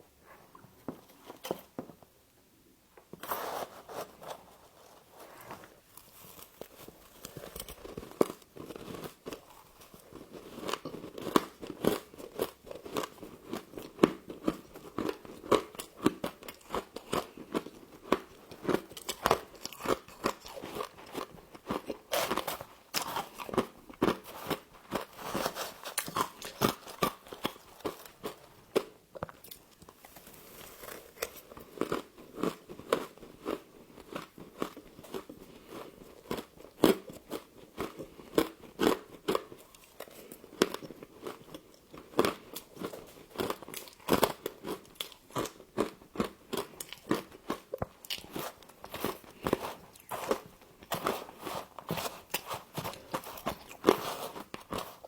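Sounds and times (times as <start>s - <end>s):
crisp crunching and chewing of frost: 3.3s - 55.0s.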